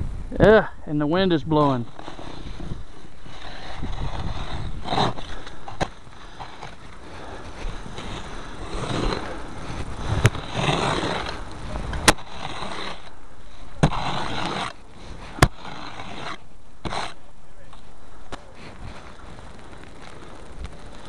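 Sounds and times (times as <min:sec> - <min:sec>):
scraper scraping wet snow: 0:01.2 - 0:17.3, 0:18.4 - 0:21.0.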